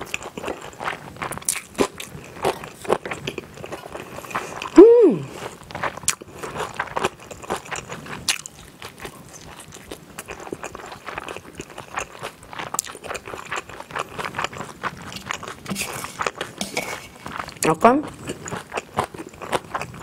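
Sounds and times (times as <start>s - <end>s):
biting and chewing dumpling: 0.0s - 20.0s.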